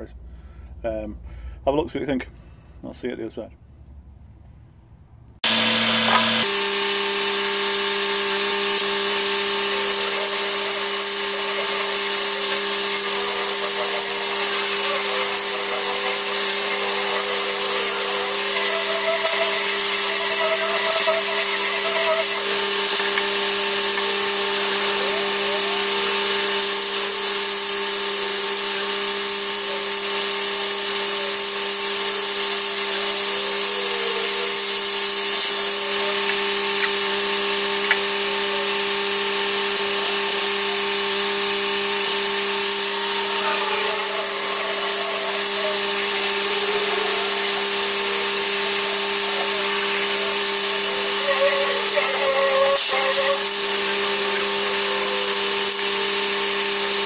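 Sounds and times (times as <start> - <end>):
electric polisher on metal plate: 5.4 - 57.0.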